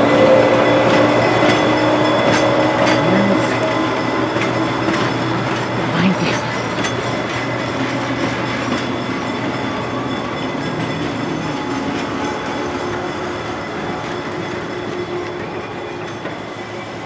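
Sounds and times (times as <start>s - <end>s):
faint clicks from rails: 0.0s - 16.4s
rail motorcar engine drone: 0.0s - 17.0s
wheel noise on track: 0.0s - 17.0s.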